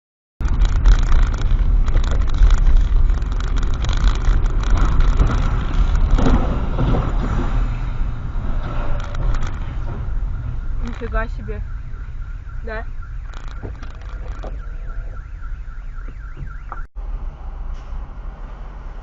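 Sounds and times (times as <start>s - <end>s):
car road and engine rumble: 0.4s - 19.0s.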